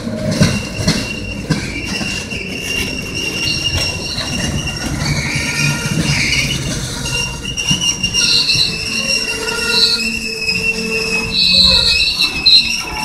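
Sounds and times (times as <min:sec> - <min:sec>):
high squeal of train running gear: 0:00.0 - 0:13.0
train wheels rumbling on rail: 0:00.0 - 0:13.0.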